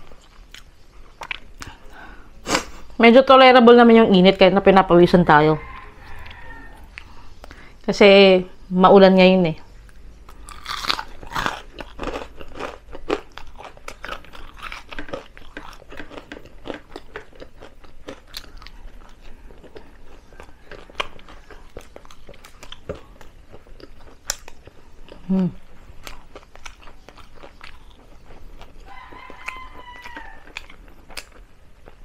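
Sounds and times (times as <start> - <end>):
chewing and crunching: 0.0 - 2.0, 5.6 - 7.7, 9.8 - 32.0.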